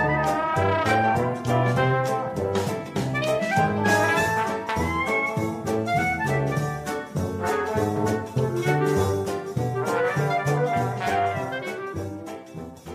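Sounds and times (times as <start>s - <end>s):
brass band tune over a beat: 0.0s - 12.9s.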